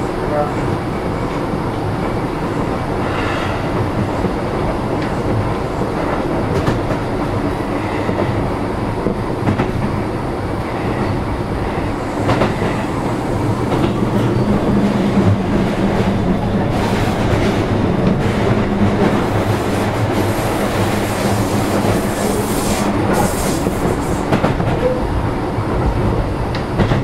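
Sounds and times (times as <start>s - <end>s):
wheels rumbling on rail: 0.0s - 27.0s
rail joint clicks: 0.6s - 10.0s, 10.6s - 27.0s.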